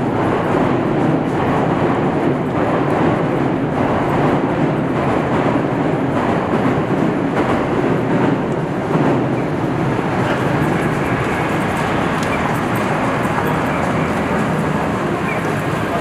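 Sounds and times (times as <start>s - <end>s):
city street noise: 0.0s - 16.0s
train wheels clattering on rails: 0.0s - 16.0s.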